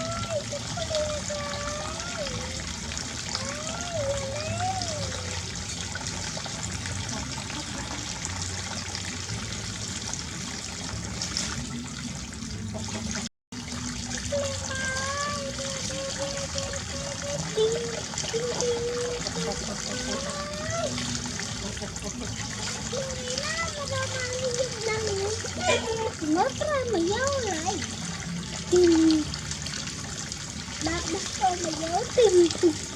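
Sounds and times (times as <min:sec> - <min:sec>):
water running from a tap: 0:00.0 - 0:32.9.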